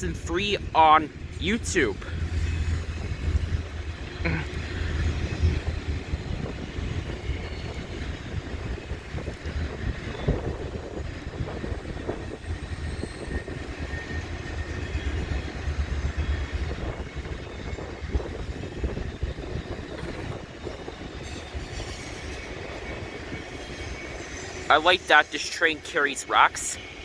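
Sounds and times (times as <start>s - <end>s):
freight train rumble: 0.0s - 27.0s.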